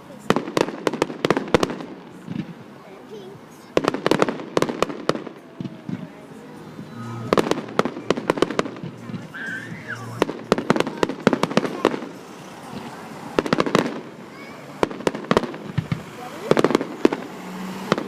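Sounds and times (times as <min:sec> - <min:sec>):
fireworks cracks and bangs: 0:00.1 - 0:18.0.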